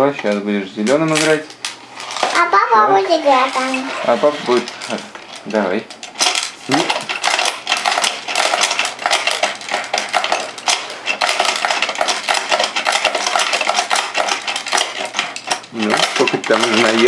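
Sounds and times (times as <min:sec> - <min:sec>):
balls rattling on board: 0:00.0 - 0:17.0
plastic clacking and clattering: 0:00.2 - 0:02.6, 0:03.3 - 0:17.0.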